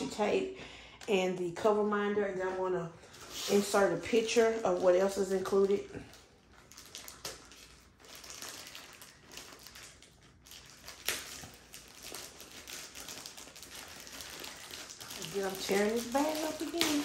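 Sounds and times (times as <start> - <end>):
plastic bag crinkling and tearing: 3.1 - 17.0.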